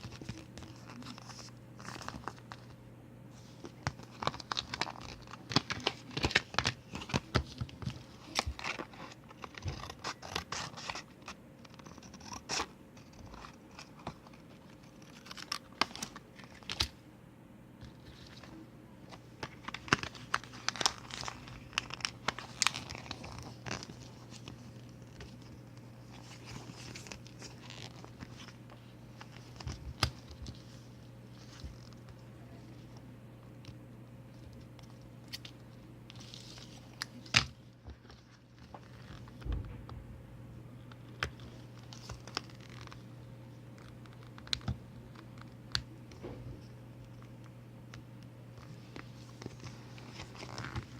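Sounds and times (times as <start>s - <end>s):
paper crinkling and rustling: 0.0s - 17.0s, 17.8s - 33.0s, 34.3s - 39.7s, 40.9s - 43.1s, 43.7s - 47.4s, 48.5s - 50.9s.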